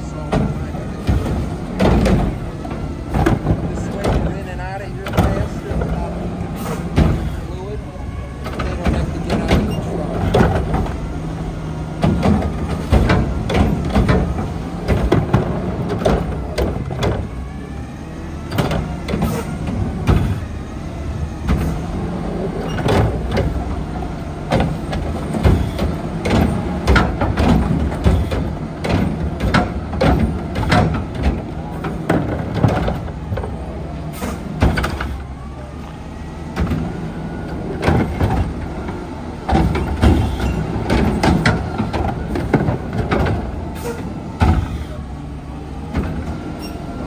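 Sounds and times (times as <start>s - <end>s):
clanks and bangs of carts: 0.0s - 35.6s, 36.4s - 47.0s
garbage truck engine running: 0.0s - 47.0s.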